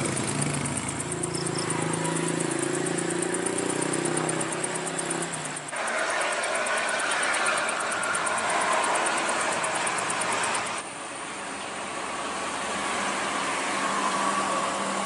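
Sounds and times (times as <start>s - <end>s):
traffic passing at speed: 0.0s - 15.0s.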